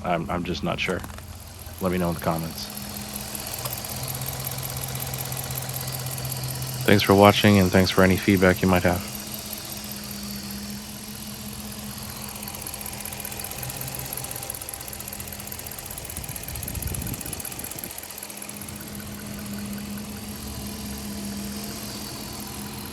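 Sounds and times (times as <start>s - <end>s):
car engine idling: 0.0s - 22.9s
repetitive engine knock: 0.0s - 22.9s.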